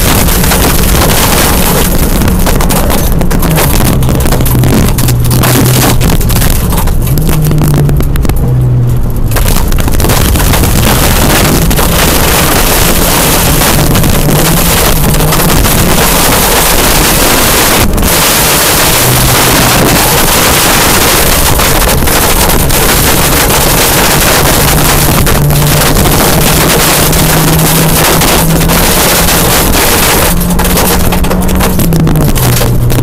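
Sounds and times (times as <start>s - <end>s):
rally car engine revving: 0.0s - 33.0s
tyre and gravel noise: 0.0s - 33.0s.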